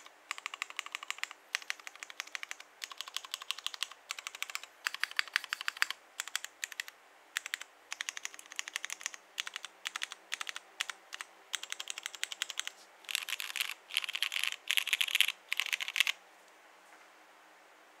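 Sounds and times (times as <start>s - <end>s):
typing on mechanical keyboard: 0.0s - 16.2s.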